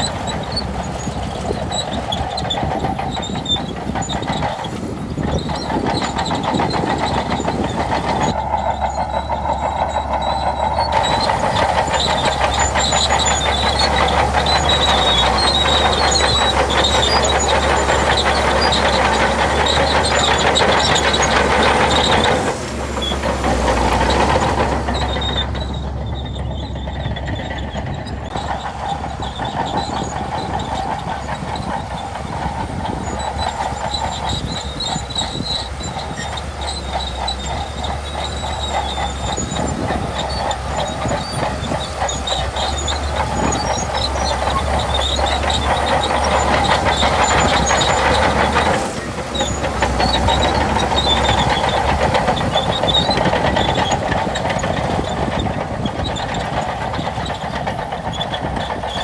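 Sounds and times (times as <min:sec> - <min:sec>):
bulldozer diesel engine drone: 0:00.0 - 0:59.0
steel tracks clattering: 0:00.0 - 0:59.0.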